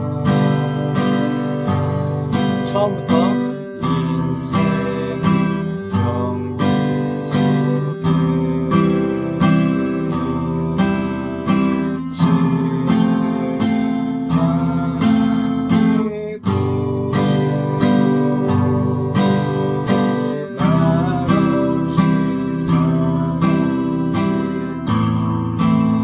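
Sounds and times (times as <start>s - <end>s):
acoustic guitar strumming waltz: 0.0s - 26.0s.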